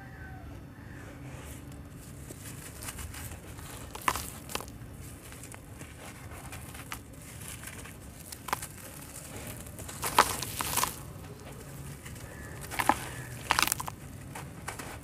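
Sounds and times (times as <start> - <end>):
gritty crunches and crackles: 1.4 - 15.0.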